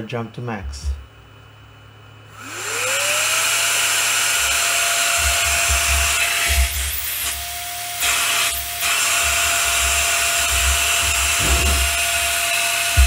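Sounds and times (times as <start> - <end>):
blower whirring: 2.2 - 13.0.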